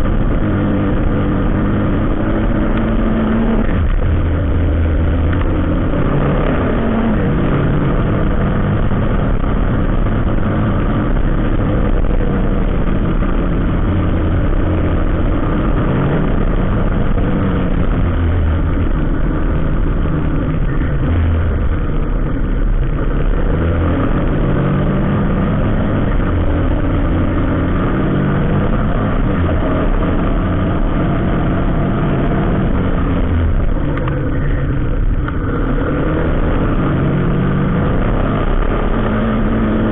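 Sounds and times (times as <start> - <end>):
road traffic noise: 0.0 - 39.9
vehicle engine rumbling: 0.0 - 39.9.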